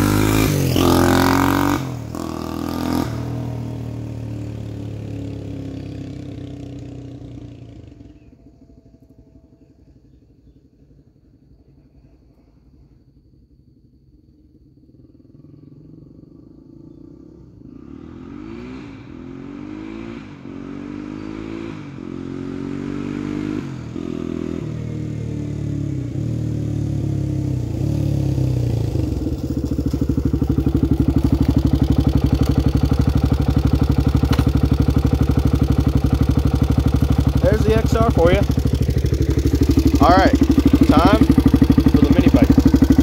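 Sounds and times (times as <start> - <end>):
motorcycle engine revving: 0.0 - 12.0, 12.8 - 43.0
motorcycle engine idling: 0.0 - 18.6, 23.7 - 43.0.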